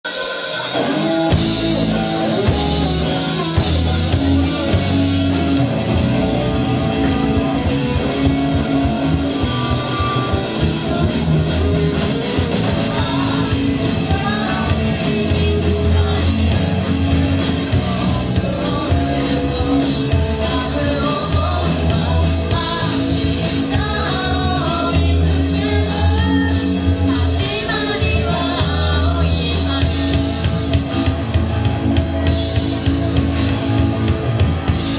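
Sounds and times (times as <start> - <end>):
rock band playing: 0.0 - 34.9
person singing: 0.1 - 31.2.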